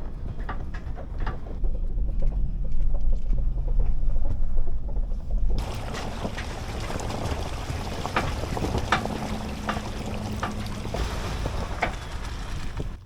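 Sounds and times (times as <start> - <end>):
truck rumbling on dirt track: 0.0 - 13.0.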